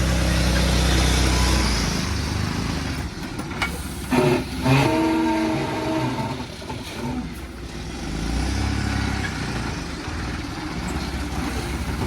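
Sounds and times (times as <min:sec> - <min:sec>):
heavy diesel engine: 0:00.0 - 0:12.0.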